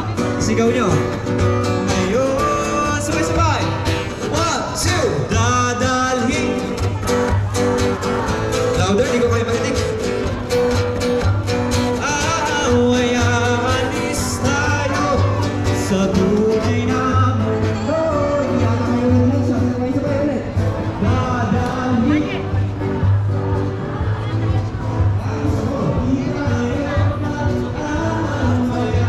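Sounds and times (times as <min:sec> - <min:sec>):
person singing with instruments: 0:01.6 - 0:29.0.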